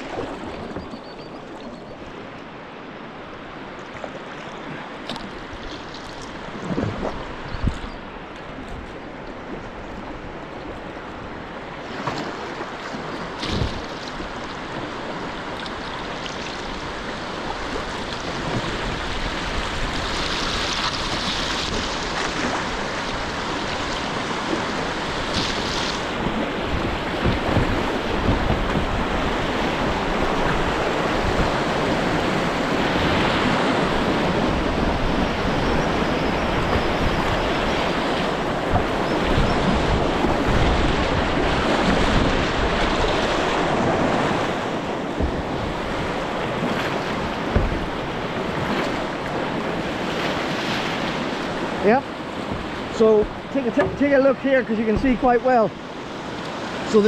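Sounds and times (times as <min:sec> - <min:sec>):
river water rushing over rapids: 0:11.2 - 0:57.0.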